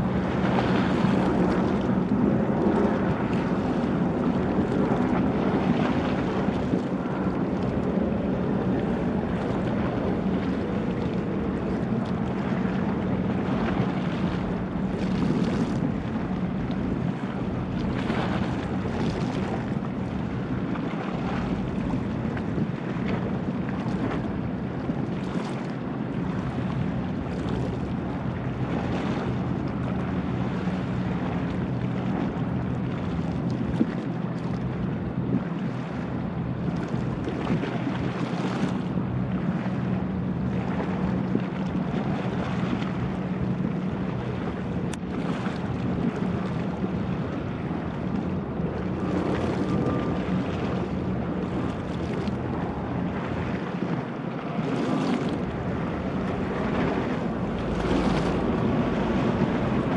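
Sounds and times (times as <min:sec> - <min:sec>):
boat engines droning: 0:00.0 - 0:59.9
water rushing: 0:00.0 - 0:59.9
wind gusts on microphone: 0:00.0 - 0:59.9.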